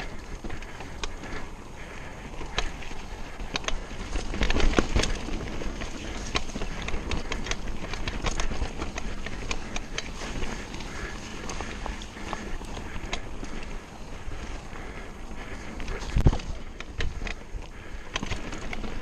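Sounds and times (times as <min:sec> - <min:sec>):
bike chain and frame rattling: 0:00.0 - 0:19.0
bike tyres rumbling on dirt: 0:00.0 - 0:19.0.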